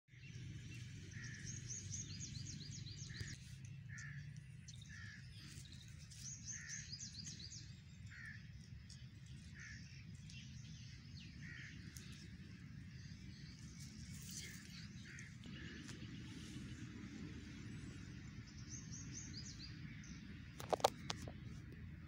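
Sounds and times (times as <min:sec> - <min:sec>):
steady low rumble: 0:00.1 - 0:22.0.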